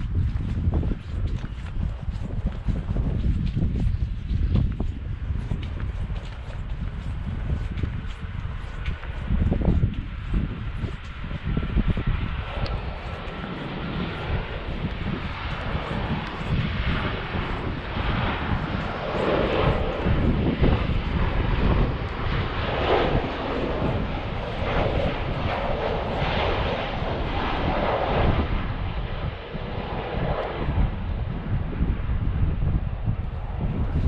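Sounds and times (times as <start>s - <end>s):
airliner engine rumble: 0.0s - 34.0s
wind on microphone: 0.0s - 34.0s.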